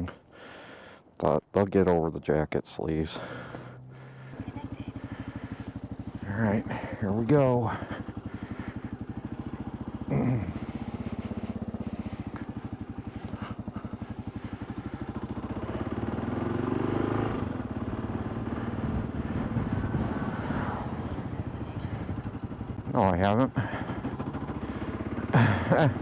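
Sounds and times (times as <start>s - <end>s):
motorcycle engine revving: 3.1s - 26.0s.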